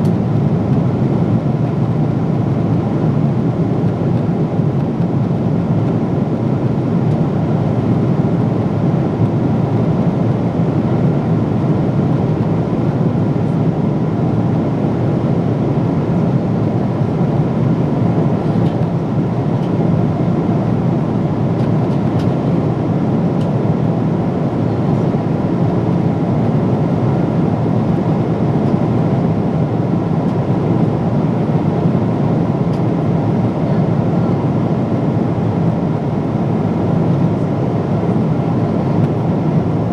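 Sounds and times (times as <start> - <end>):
airliner cabin noise in flight: 0.0 - 39.9.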